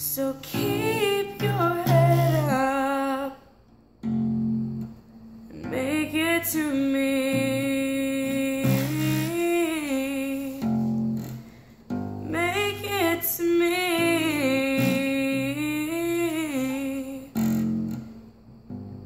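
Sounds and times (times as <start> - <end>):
young woman singing wordless melody: 0.0 - 3.7, 5.4 - 18.0
acoustic bass guitar plucked: 0.4 - 2.9, 4.0 - 4.9, 5.5 - 19.0.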